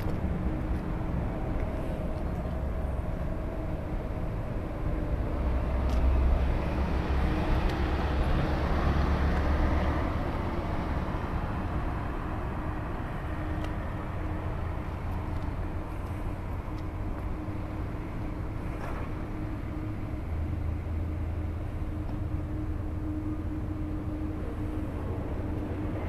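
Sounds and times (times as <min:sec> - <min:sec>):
constant hum: 0:00.0 - 0:26.0.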